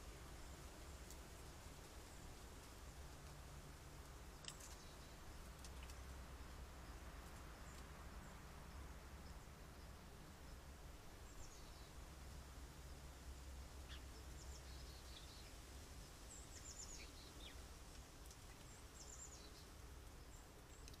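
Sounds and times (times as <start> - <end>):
small birds chirping and trilling: 4.0 - 21.0.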